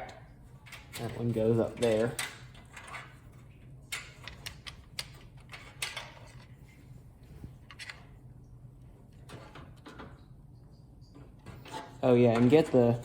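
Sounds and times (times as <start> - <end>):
plastic fans and cables clicking: 0.0 - 6.8, 7.4 - 13.0
low steady hum: 0.0 - 13.0.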